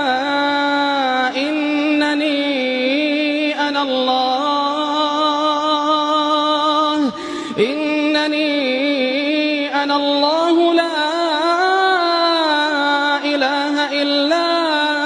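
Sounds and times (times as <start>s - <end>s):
person reciting melodically: 0.0s - 15.0s.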